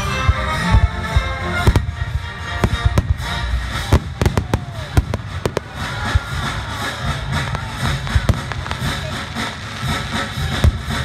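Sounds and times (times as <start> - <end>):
music playing: 0.0 - 11.0
fireworks shells bursting: 0.1 - 11.0.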